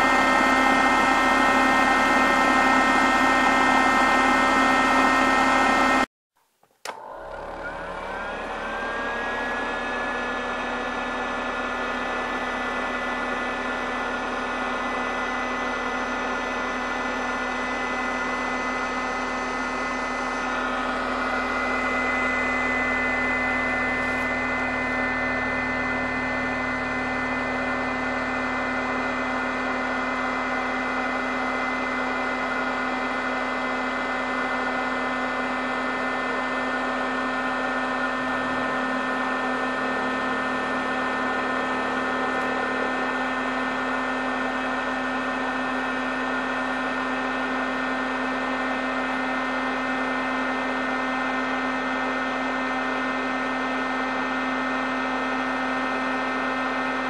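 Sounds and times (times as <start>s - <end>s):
foot massager motor hum: 0.0s - 6.1s, 6.8s - 57.0s.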